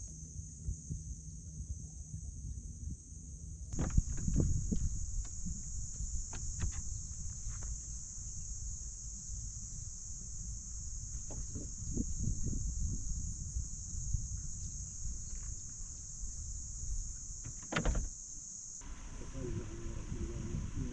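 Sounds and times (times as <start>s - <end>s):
insects chirring: 3.7s - 20.9s.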